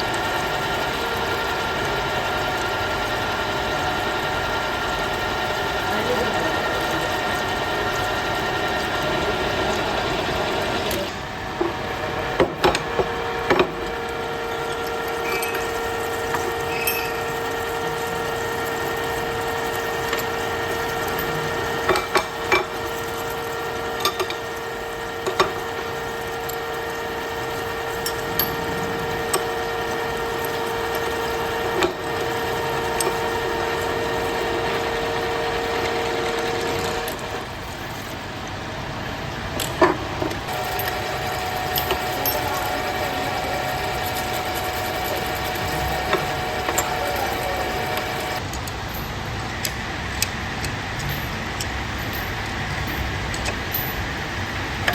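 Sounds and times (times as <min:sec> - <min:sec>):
machinery humming: 0:00.0 - 0:54.9.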